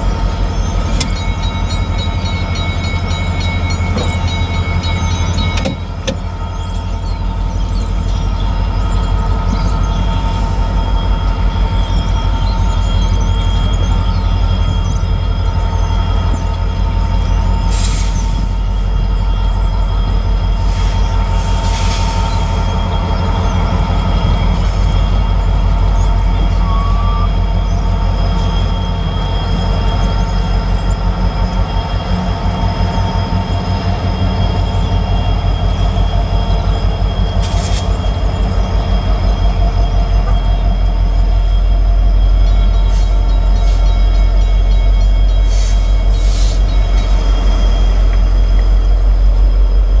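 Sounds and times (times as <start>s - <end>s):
diesel locomotive engine rumble: 0.0s - 50.0s
train wheel squeals: 0.0s - 50.0s.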